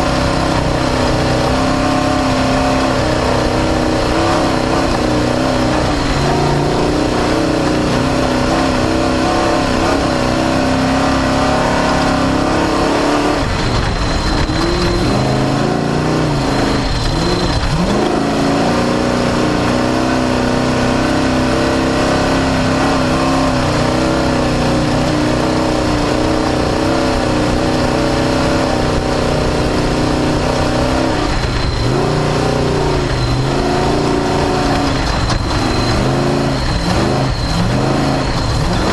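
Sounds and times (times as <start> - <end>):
race car engine running hard: 0.0 - 38.9
steady rushing noise: 0.0 - 38.9.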